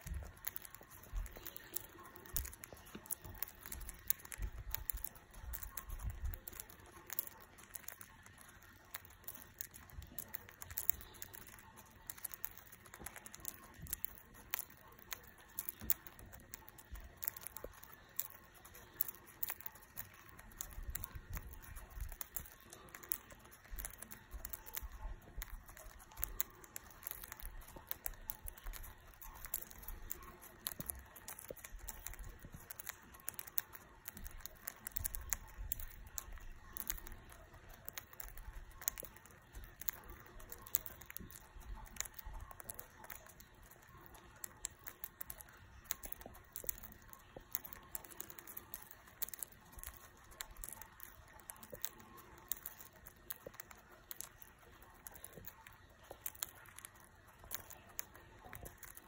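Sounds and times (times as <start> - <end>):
birds cracking pellets with beaks: 0.0 - 59.0.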